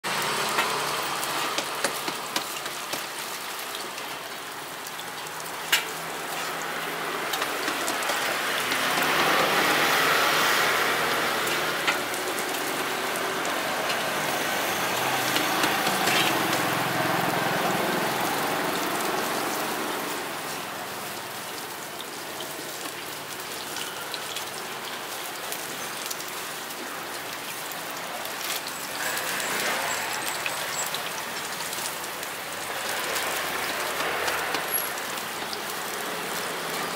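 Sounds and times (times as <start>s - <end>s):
hot oil sizzling and crackling: 0.0s - 36.9s.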